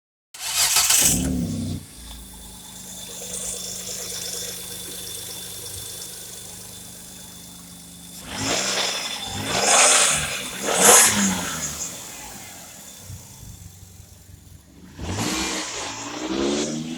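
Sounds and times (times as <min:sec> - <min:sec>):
car engine idling and revving: 0:00.4 - 0:16.9.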